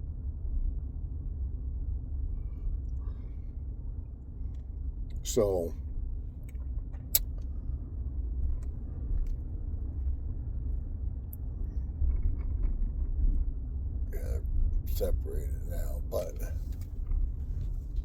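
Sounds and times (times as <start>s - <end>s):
car rumbling inside cabin: 0.0s - 18.0s.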